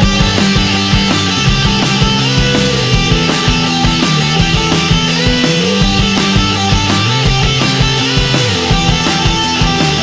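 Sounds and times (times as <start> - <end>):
indie rock music: 0.0 - 10.0.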